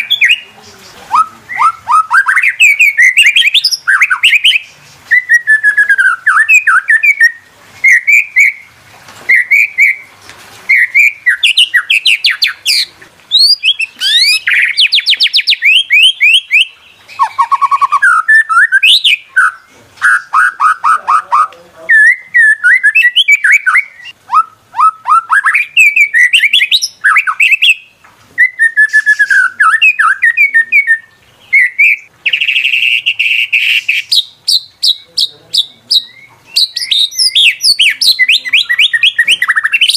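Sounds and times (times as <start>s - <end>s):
bird singing whistled phrases: 0.0s - 0.5s, 1.1s - 8.7s, 9.3s - 10.1s, 10.7s - 39.9s.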